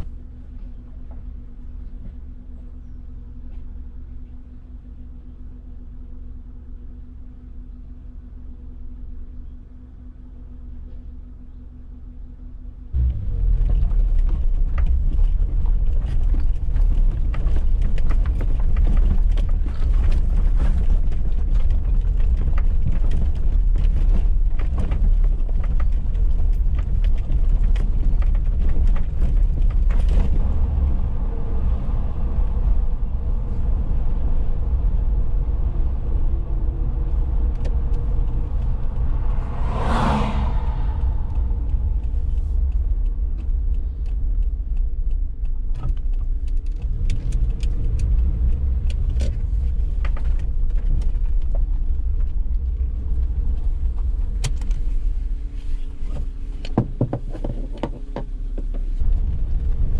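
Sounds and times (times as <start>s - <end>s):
car engine drone: 0.0s - 59.9s
knocks and rattles from rough road: 0.0s - 59.9s.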